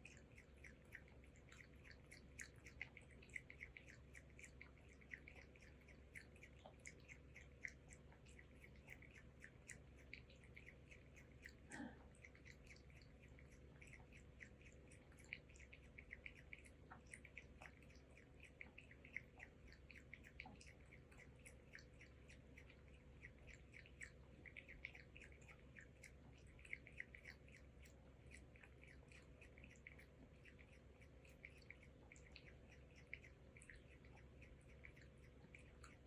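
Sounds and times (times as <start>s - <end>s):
cat lapping milk: 0.0s - 36.0s.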